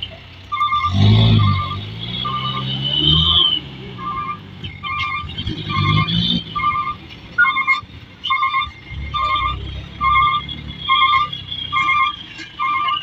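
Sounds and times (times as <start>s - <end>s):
truck engine rumble: 0.0s - 13.0s
reversing alarm beeping: 0.5s - 13.0s.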